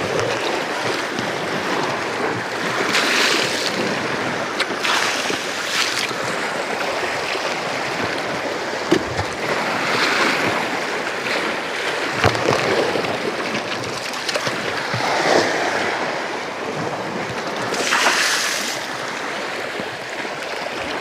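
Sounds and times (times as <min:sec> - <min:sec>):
waves splashing against rocks: 0:00.0 - 0:21.0.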